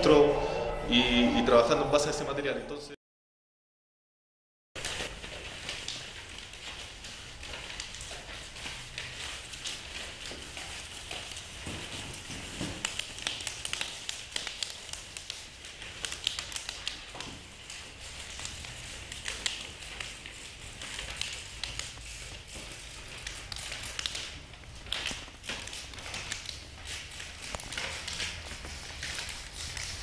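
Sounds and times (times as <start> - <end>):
paper crumpling: 4.8 - 30.0.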